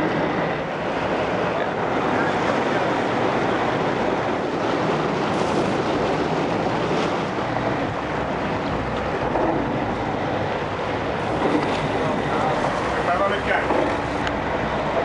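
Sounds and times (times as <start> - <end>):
boat engines running: 0.0 - 15.0
water against hull: 0.0 - 15.0
wind on microphone: 0.0 - 15.0.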